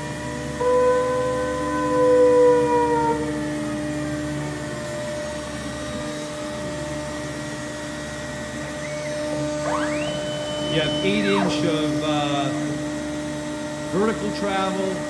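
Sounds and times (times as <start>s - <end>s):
cnc router motor hum and whine: 0.0s - 15.0s.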